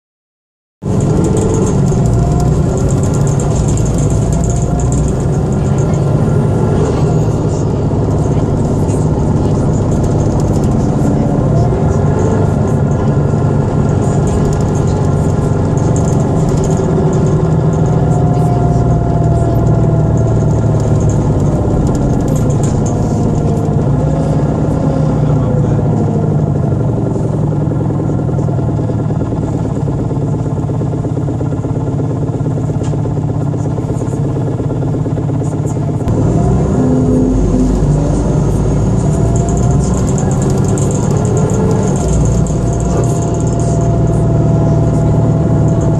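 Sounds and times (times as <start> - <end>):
vehicle cabin rumble: 0.8 - 45.9.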